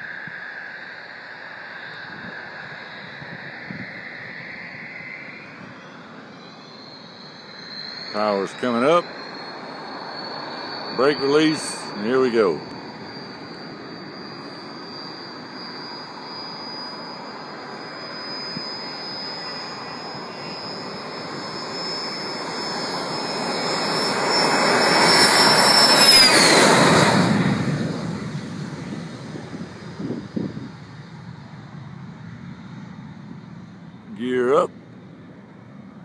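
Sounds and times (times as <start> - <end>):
jet engines roaring on takeoff: 0.0 - 36.0.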